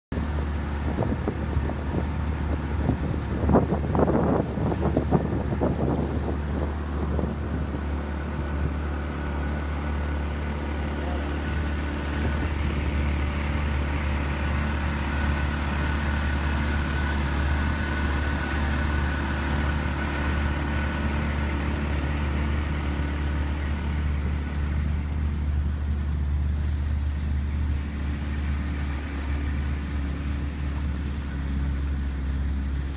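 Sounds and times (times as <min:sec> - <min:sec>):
wind: 0:00.0 - 0:32.9
motorboat engine humming: 0:00.1 - 0:32.9
water rushing: 0:00.1 - 0:32.9.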